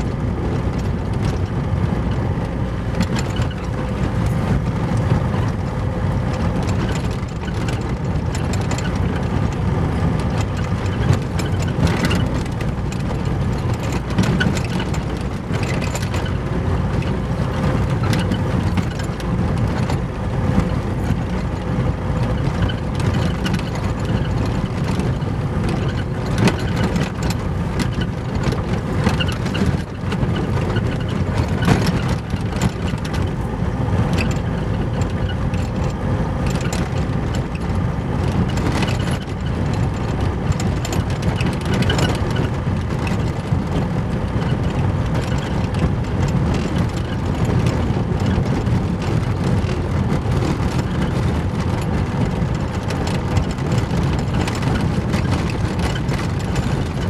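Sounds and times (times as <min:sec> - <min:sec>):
tyres and engine rumbling: 0:00.0 - 0:57.0.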